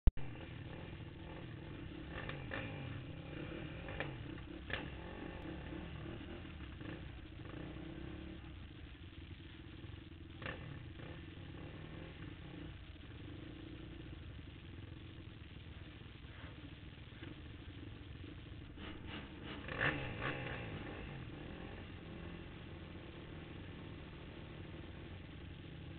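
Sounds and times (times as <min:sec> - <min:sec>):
atv engines idling: 0:00.2 - 0:25.9.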